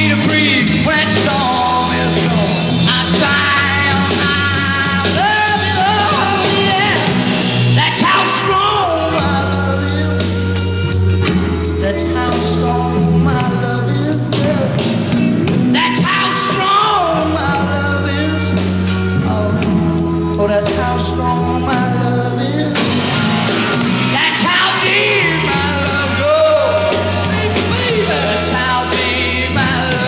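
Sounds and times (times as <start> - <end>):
rock band with singing: 0.0 - 30.0.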